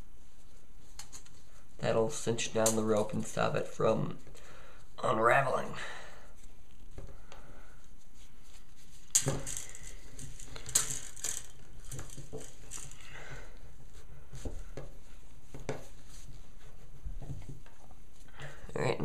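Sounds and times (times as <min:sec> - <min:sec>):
rope rustling and rubbing: 0:00.0 - 0:18.8.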